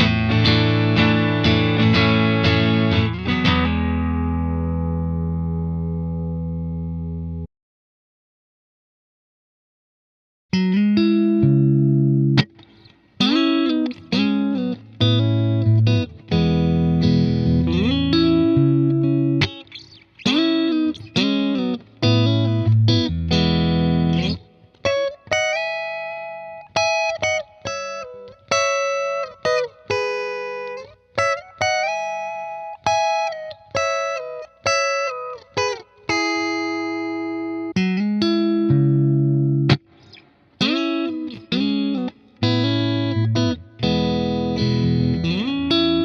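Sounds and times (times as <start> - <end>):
clean electric guitar playing: 0.0 - 7.5, 10.5 - 46.0.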